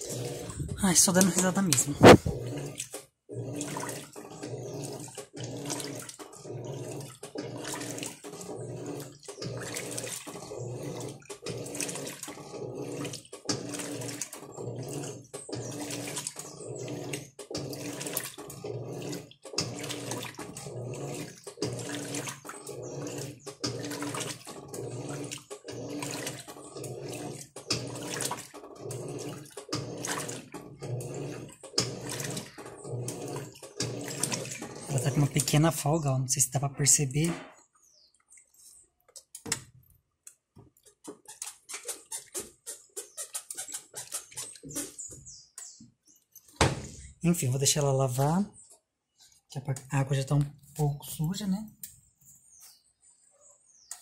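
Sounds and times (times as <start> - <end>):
washing machine motor hum: 0.0 - 37.5, 38.6 - 48.7, 49.3 - 52.6
washing machine water sloshing: 0.0 - 52.6.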